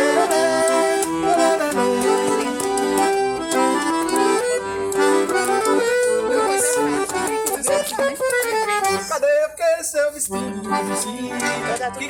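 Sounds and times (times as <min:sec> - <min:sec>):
accordion playing lively melody: 0:00.0 - 0:09.5, 0:10.2 - 0:12.0.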